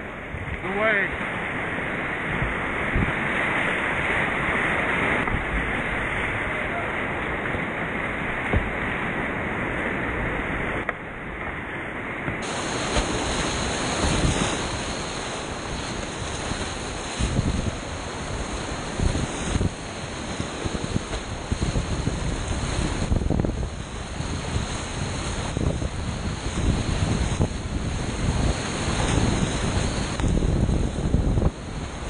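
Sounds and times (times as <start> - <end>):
rushing whitewater: 0.0 - 32.0
water splashing over boat: 0.0 - 32.0.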